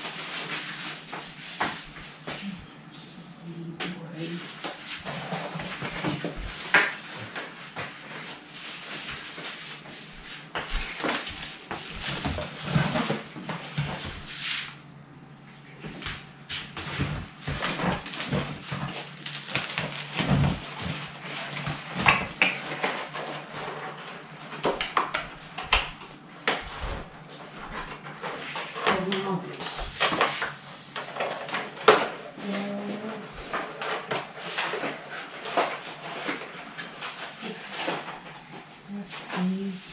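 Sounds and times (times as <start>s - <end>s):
cardboard and plastic rustling: 4.2s - 14.7s, 15.8s - 39.9s.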